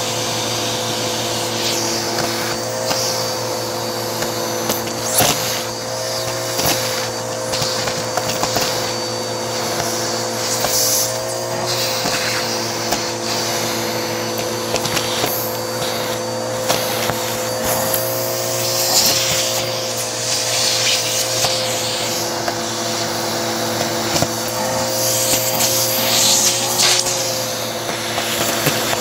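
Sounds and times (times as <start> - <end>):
vacuum cleaner motor drone: 0.0 - 29.0
vacuum sucking over carpet: 0.0 - 29.0.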